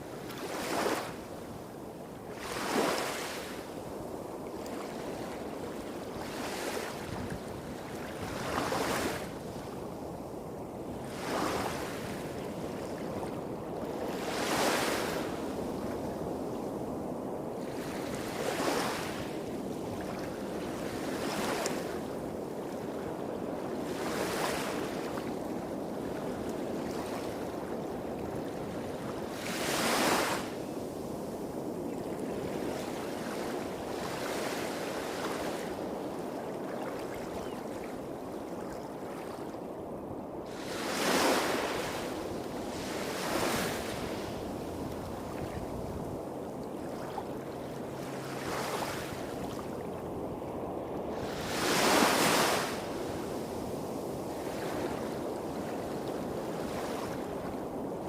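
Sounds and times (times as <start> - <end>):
small waves washing up beach: 0.0 - 39.6, 40.4 - 58.0.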